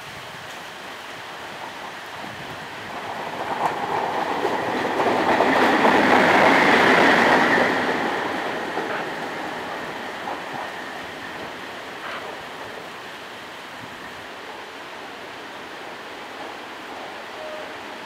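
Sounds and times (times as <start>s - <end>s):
electric locomotive passing: 0.0s - 18.0s.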